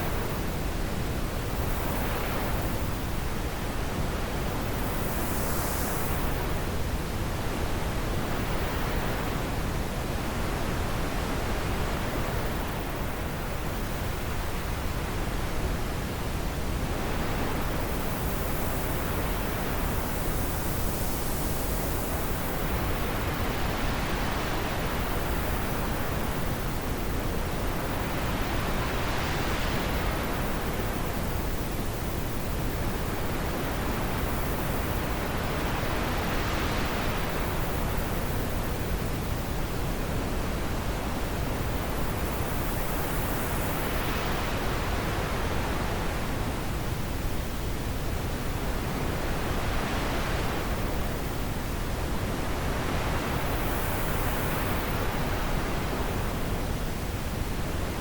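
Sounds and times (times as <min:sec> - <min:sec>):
steady wind noise: 0:00.0 - 0:58.0.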